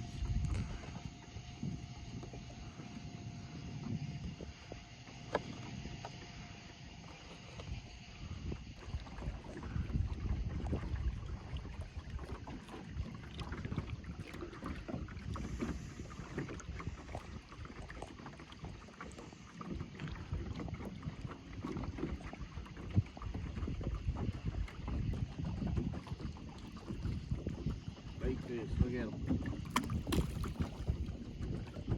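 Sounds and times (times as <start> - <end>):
wind buffeting microphone: 0.0 - 18.9, 19.6 - 31.9
knocks and clicks from boat: 0.0 - 31.9
water lapping against boat: 0.0 - 31.9.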